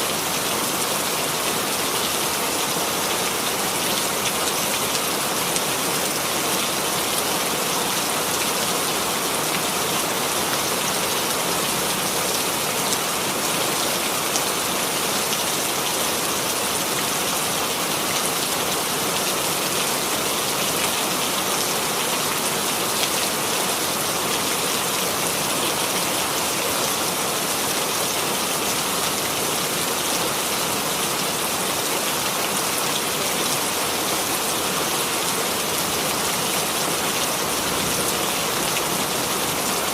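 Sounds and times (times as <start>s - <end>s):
rain pattering on a surface: 0.1s - 39.9s.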